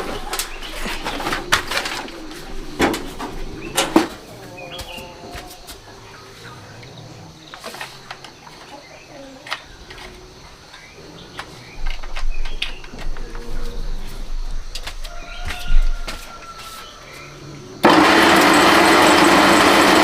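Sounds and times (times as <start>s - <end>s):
faint bird calls: 0.0s - 17.8s.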